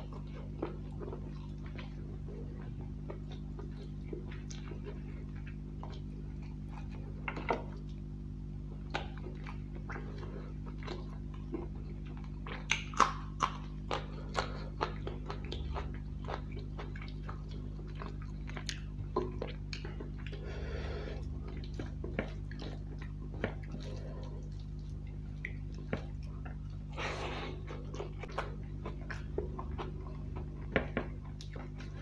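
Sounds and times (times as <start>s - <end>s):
chewing with wet clicks: 0.0s - 32.0s
steady low hum: 0.0s - 32.0s
wet squishing of food by hand: 0.0s - 32.0s.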